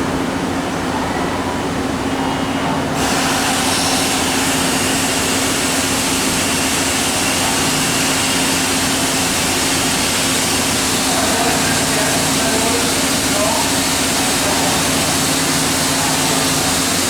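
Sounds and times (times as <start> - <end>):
hiss: 3.0 - 17.0.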